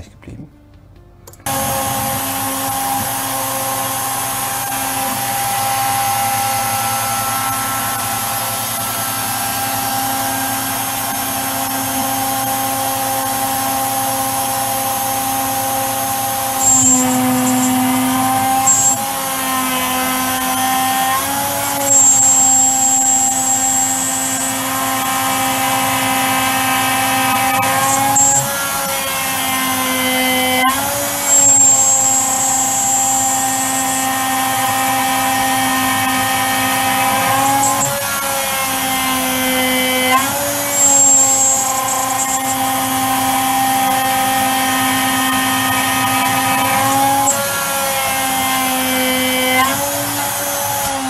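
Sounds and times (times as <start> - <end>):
milling machine spindle whine: 1.4 - 51.0.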